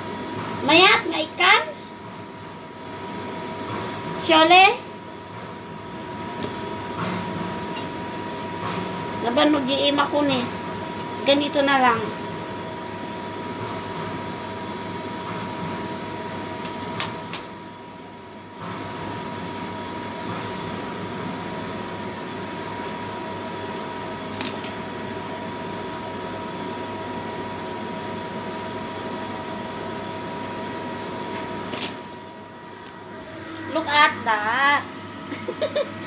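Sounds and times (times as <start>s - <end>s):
kitchen appliance humming: 0.0s - 36.0s.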